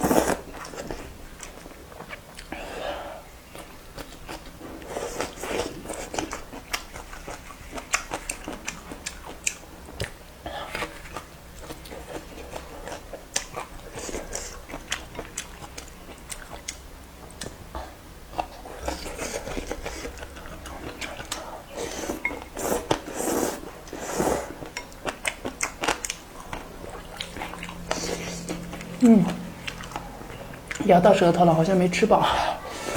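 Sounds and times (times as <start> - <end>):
person chewing noodles: 0.0 - 30.9.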